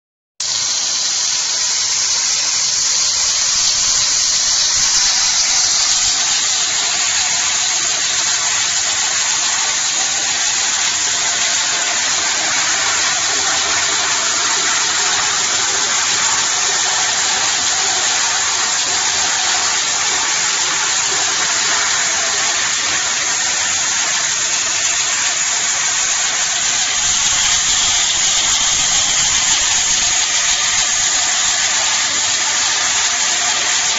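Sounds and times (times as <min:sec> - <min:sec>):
slitting machine hiss and whir: 0:00.4 - 0:33.9.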